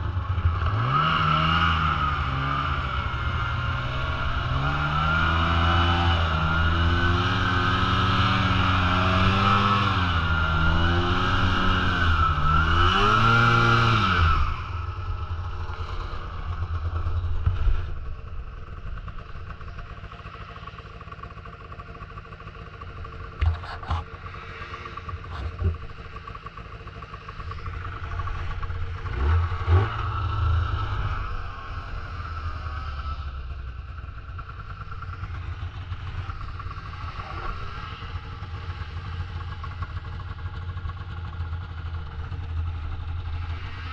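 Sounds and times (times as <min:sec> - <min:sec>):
snowmobile engine running: 0:00.0 - 0:43.9.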